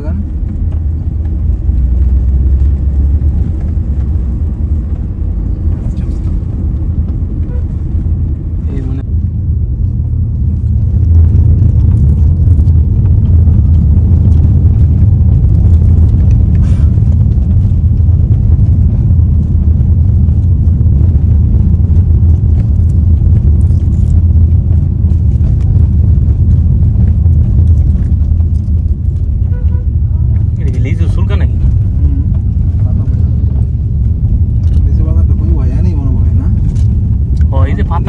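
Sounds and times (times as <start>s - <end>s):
road vehicle rumble: 0.0s - 38.0s.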